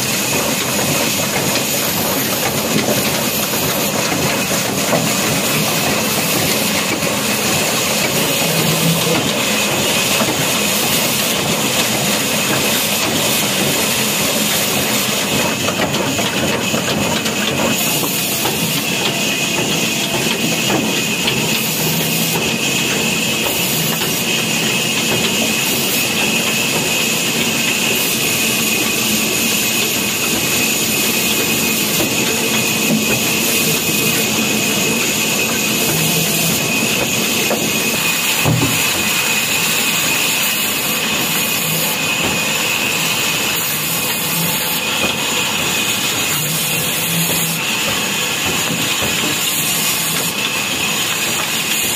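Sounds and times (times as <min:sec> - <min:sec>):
band saw high whine: 0:00.0 - 0:51.9.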